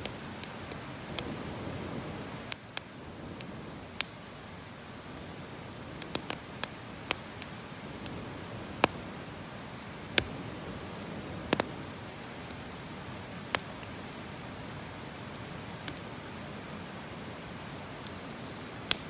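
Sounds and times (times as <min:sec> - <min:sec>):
campfire pops and snaps: 0:00.0 - 0:04.4, 0:05.0 - 0:09.2, 0:10.1 - 0:11.8, 0:12.4 - 0:12.7, 0:13.4 - 0:19.0
soft fire hiss: 0:00.0 - 0:19.0.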